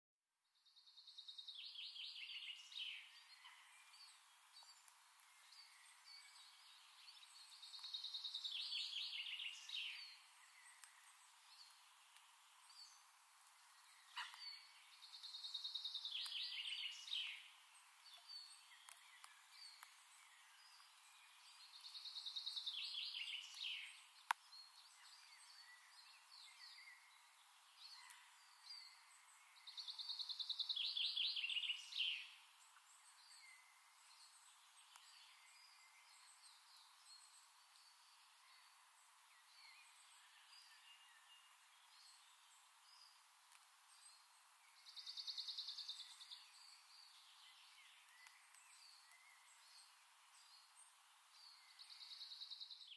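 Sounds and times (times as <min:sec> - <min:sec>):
faint steady hiss: 0:00.5 - 0:52.9.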